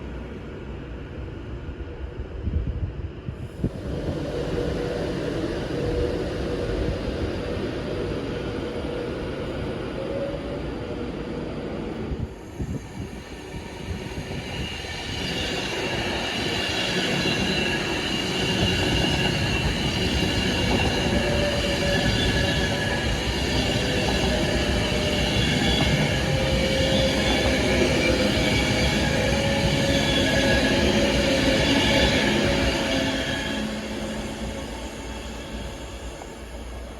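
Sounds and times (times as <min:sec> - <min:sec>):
train rumbling through station: 0:00.0 - 0:36.9.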